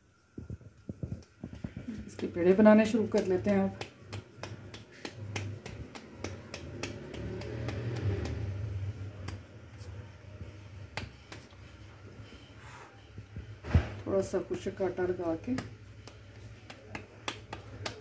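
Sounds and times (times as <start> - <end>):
hands patting dough: 0.0 - 12.4, 13.2 - 18.0
low steady hum: 0.0 - 18.0.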